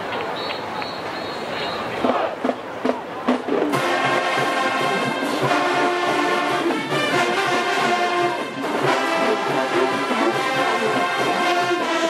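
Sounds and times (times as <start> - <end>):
marching band brass chords: 2.0 - 12.0
marching drum beat: 2.0 - 12.0.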